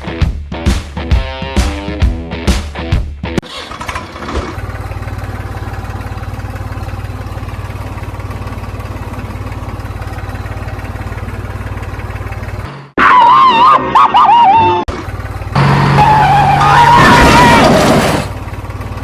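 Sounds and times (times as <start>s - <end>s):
engine idling: 3.4s - 19.0s.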